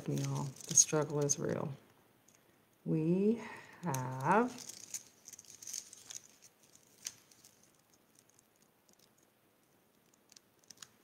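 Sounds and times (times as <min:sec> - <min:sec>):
paper letters peeling and crackling: 0:00.0 - 0:02.5, 0:03.5 - 0:11.0.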